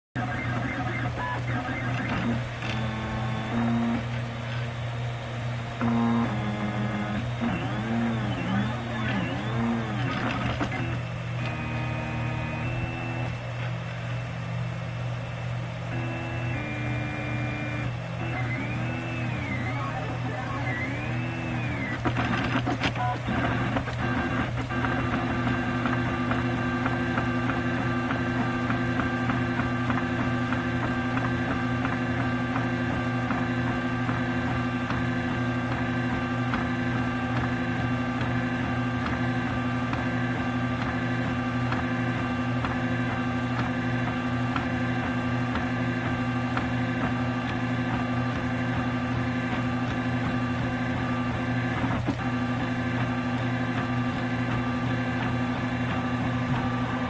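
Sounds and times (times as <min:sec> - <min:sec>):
stepper motors whining: 0:00.0 - 0:57.0.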